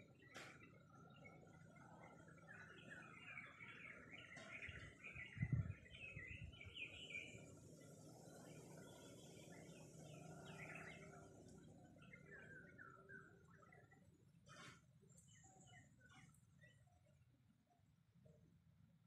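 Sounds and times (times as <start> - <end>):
small birds chirping: 0.0 - 17.2.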